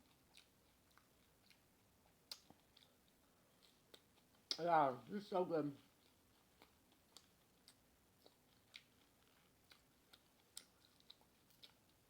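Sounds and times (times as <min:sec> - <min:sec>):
chewing crunchy chips: 0:00.0 - 0:04.6, 0:05.7 - 0:12.0.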